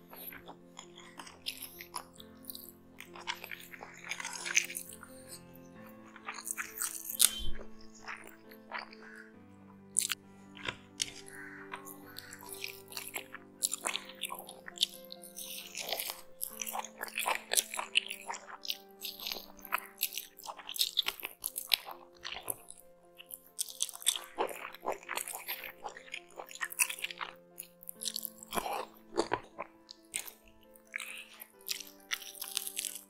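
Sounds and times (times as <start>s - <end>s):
person chewing with wet smacks: 0.0s - 9.2s, 10.0s - 33.0s
soft background music: 0.0s - 33.0s.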